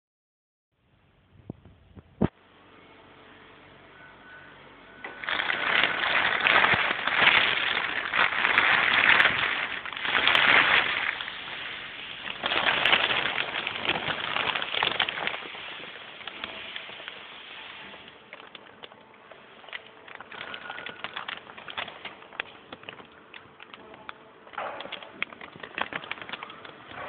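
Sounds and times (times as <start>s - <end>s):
plastic sheet rustling and crinkling: 5.0s - 27.0s.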